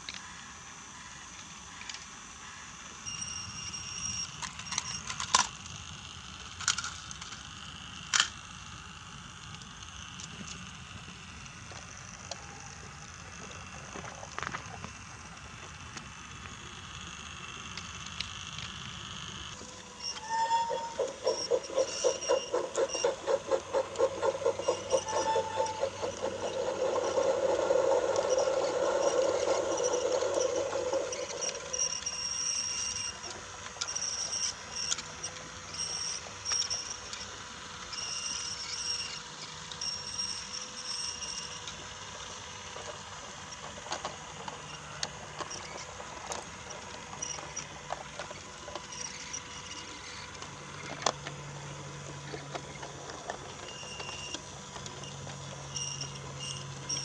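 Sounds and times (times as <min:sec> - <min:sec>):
toy train motor whine: 0:00.0 - 0:57.0
wheels clicking over track joints: 0:06.4 - 0:08.5, 0:09.4 - 0:57.0.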